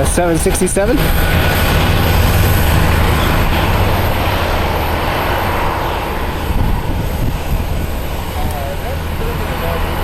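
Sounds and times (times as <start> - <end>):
jet engines passing: 0.0 - 10.0.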